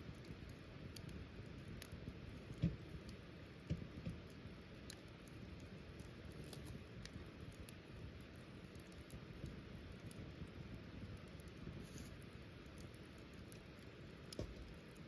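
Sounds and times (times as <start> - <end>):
low steady hiss: 0.0 - 15.0
wood fire crackling: 0.0 - 15.0.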